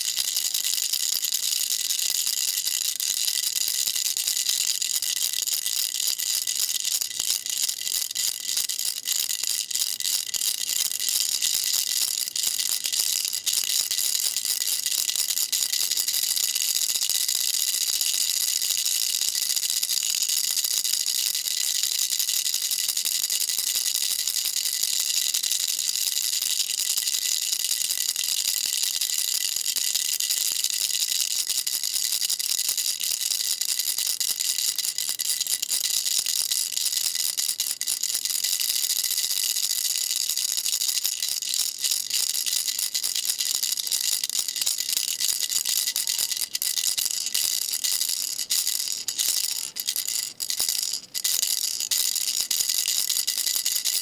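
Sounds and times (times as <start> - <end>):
baby rattle shaking: 0.0 - 54.0.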